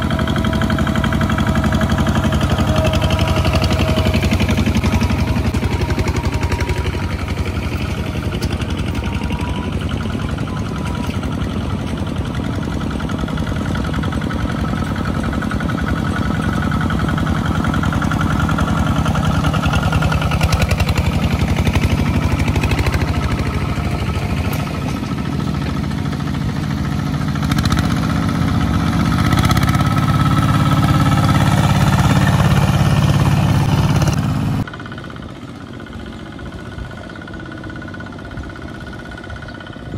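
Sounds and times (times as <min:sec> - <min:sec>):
diesel tractor engines chugging: 0:00.0 - 0:39.9.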